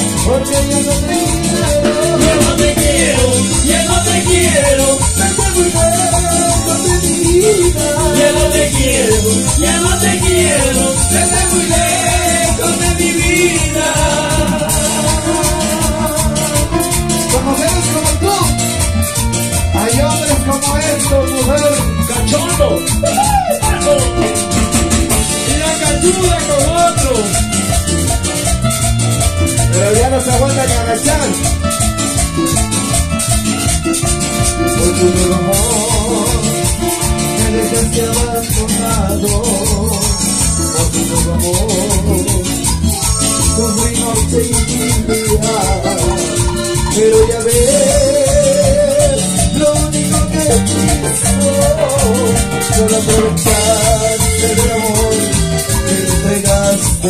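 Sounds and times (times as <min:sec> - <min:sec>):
bass guitar: 0:00.0 - 0:57.0
dance band beat: 0:00.0 - 0:57.0
melody line: 0:00.0 - 0:57.0
wavering keyboard lead: 0:00.0 - 0:57.0.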